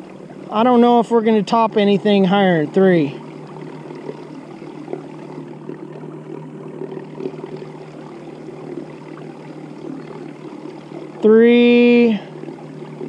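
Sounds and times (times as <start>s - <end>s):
electric trolling motor hum: 0.0s - 13.0s
water noise: 0.0s - 13.0s.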